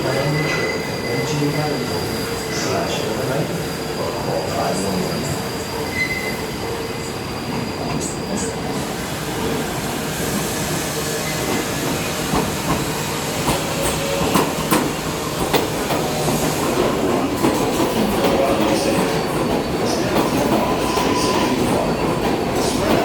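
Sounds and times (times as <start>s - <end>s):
subway train rumbling on rails: 0.0s - 23.0s.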